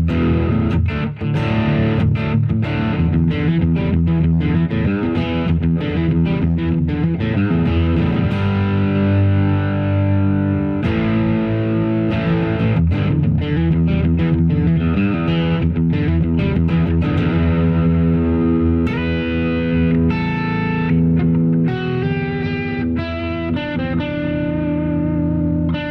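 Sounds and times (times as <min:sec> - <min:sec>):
distorted electric guitar chords: 0:00.0 - 0:25.9.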